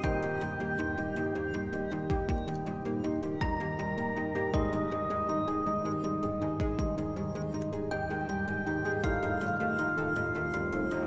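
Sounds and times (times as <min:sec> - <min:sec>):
soft held chords: 0:00.0 - 0:11.0.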